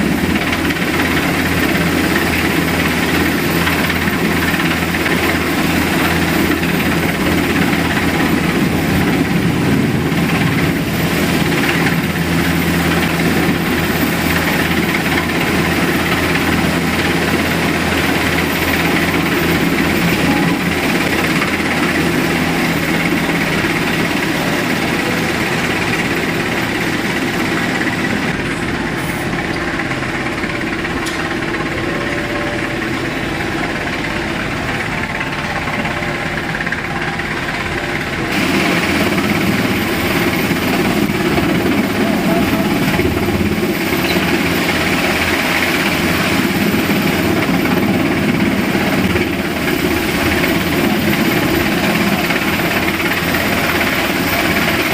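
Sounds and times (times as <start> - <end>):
helicopter hovering: 0.0 - 54.9.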